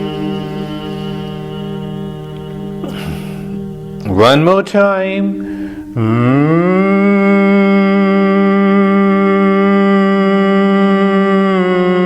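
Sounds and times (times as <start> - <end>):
person humming steady note: 0.0 - 12.0.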